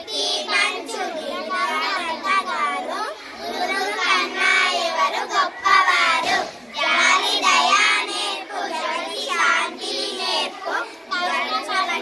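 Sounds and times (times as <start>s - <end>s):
girls chanting in unison: 0.0s - 12.0s.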